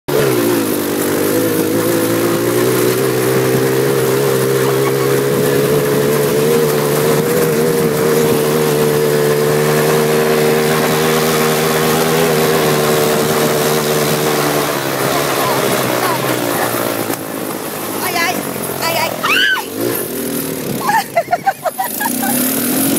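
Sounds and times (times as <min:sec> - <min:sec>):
go-kart engine running: 0:00.1 - 0:22.9.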